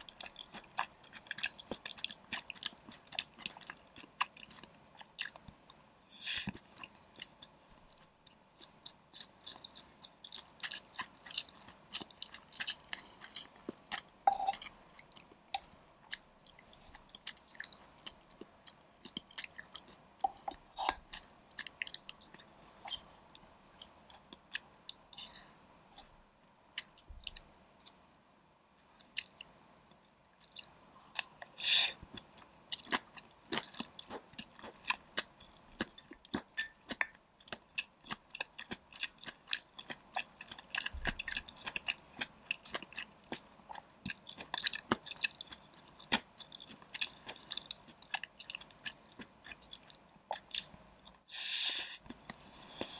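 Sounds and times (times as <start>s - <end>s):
close chewing mouth sounds: 0.0s - 5.8s, 6.4s - 26.1s, 29.0s - 51.4s.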